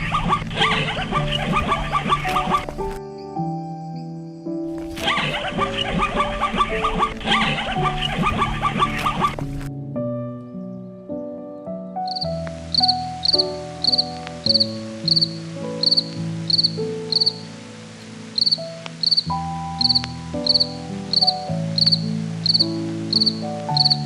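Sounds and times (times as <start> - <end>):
background music of held chords: 0.0 - 24.0.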